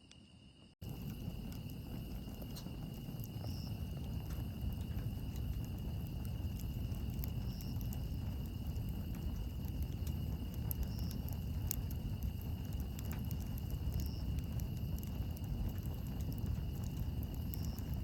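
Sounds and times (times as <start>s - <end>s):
campfire crackling: 0.5s - 18.0s.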